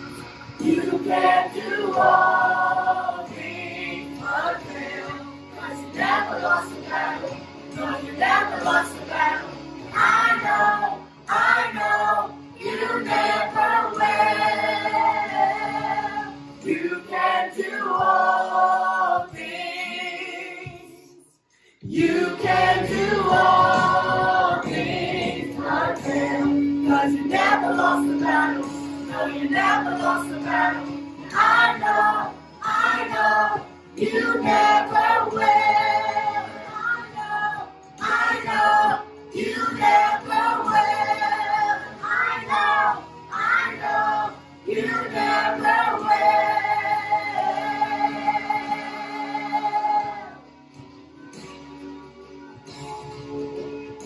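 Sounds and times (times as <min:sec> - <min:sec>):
group singing worship song: 0:00.0 - 0:21.2, 0:21.8 - 0:50.4.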